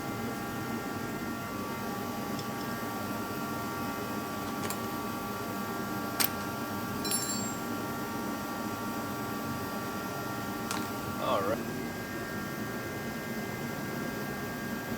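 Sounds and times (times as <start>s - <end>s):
steady background hum: 0.0s - 14.9s.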